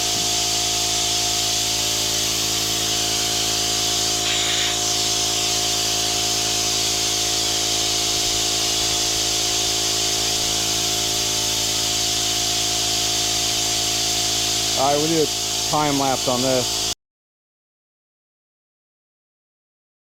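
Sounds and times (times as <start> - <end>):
suction pump humming and hissing: 0.0 - 17.0.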